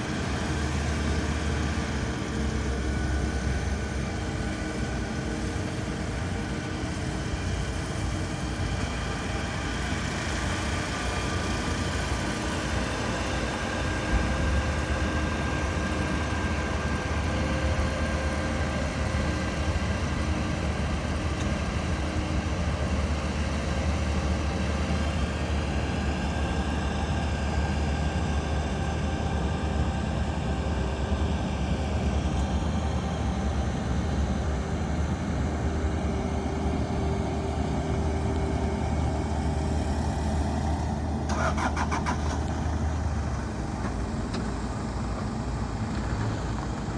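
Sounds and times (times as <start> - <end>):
combine harvester engine hum: 0.0 - 46.9.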